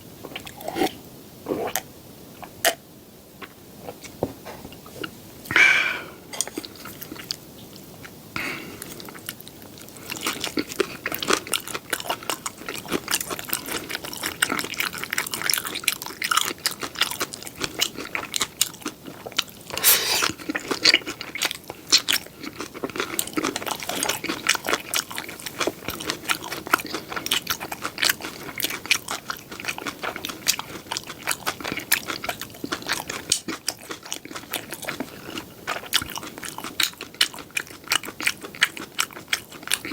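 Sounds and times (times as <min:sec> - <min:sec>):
mouth chewing crunchy food: 0:00.2 - 0:02.8, 0:06.2 - 0:39.9.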